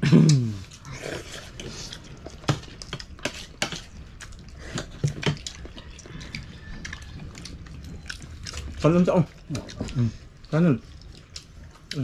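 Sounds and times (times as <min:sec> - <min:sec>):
eating sounds: 0:00.0 - 0:12.0.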